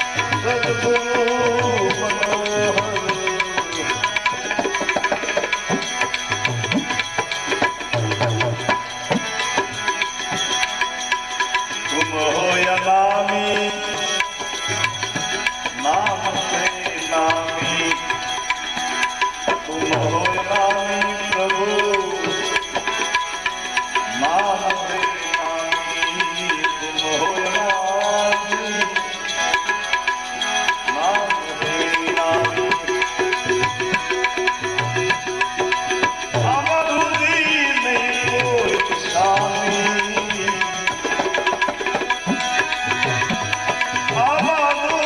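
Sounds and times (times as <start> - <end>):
tabla rhythm: 0.0 - 45.0.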